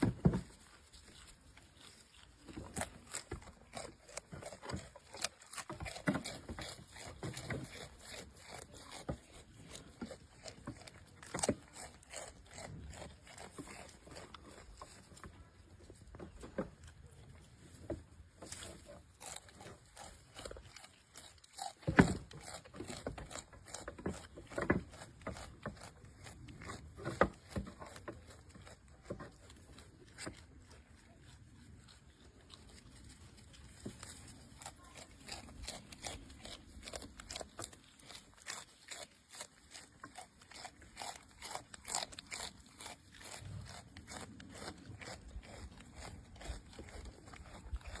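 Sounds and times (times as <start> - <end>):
goat chewing grass: 0.0 - 48.0.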